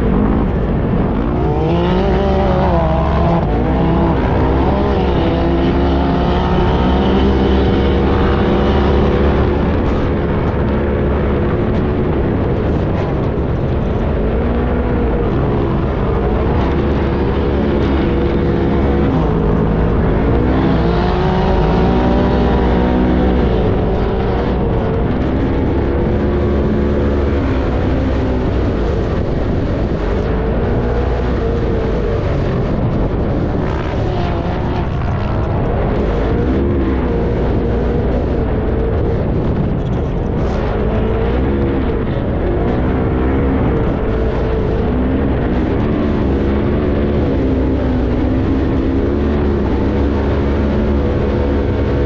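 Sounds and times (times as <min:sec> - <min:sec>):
race vehicle engine revving: 0:00.0 - 0:52.0.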